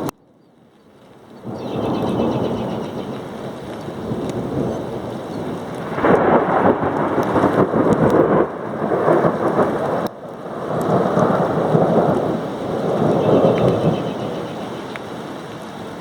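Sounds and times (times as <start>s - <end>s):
steady rain: 0.0s - 16.0s
thunder rumbling: 1.3s - 16.0s.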